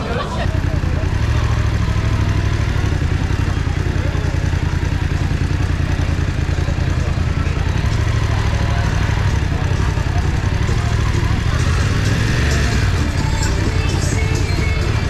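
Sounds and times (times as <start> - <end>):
motorcycle engine low throb: 0.0 - 15.0.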